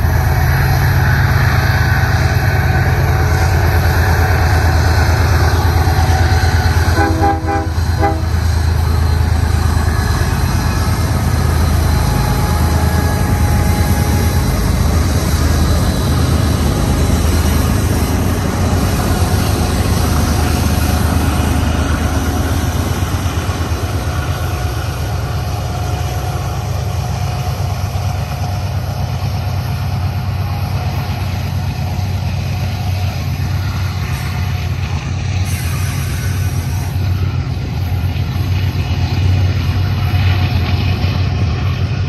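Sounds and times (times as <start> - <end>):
diesel locomotive engine drone: 0.0 - 42.0
freight cars wheel-on-rail rumble: 0.0 - 42.0.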